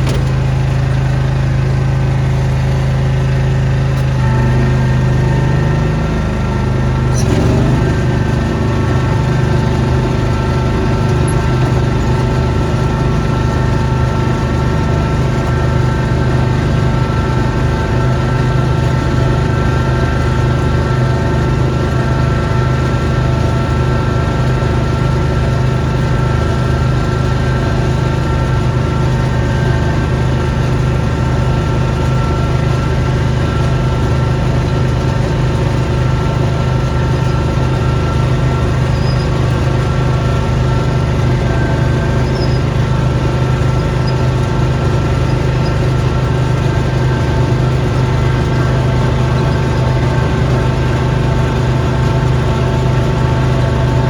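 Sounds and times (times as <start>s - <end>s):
small engine running with whine: 0.0s - 54.0s.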